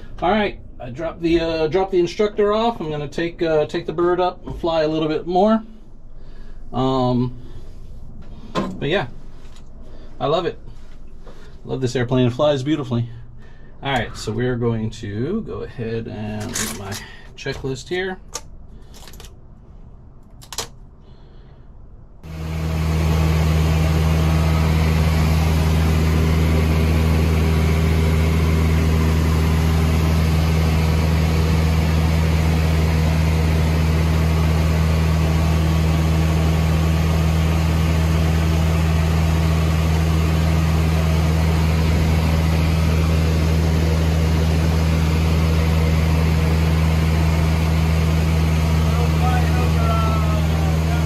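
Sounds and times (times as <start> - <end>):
airplane engine drone in cockpit: 0.0 - 51.0.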